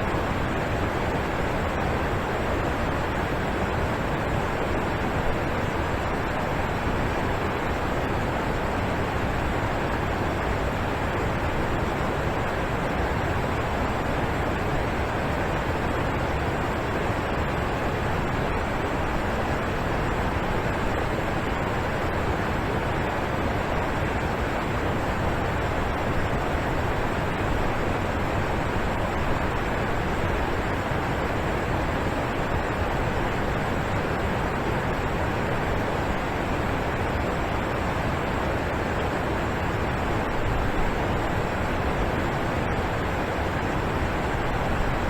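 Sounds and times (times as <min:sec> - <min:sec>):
waterfall roaring: 0:00.0 - 0:45.0.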